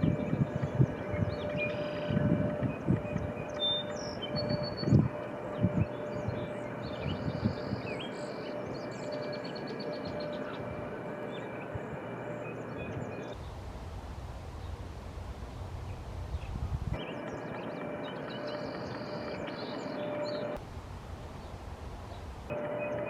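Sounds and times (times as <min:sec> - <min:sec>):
wind buffeting microphone: 0:00.0 - 0:09.0, 0:09.7 - 0:19.5, 0:20.6 - 0:22.6
small birds chirping: 0:00.0 - 0:23.0.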